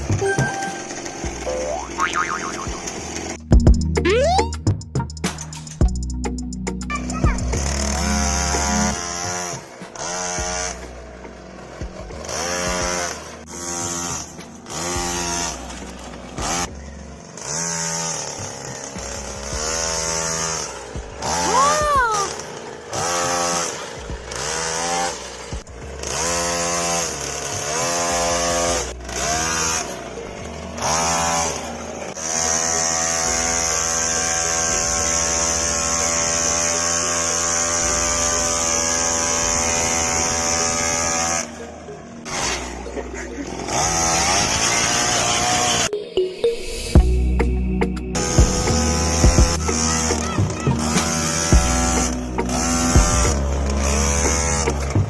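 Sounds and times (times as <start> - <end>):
small tractor engine revving: 0.0 - 4.4, 7.0 - 45.9, 48.2 - 55.0.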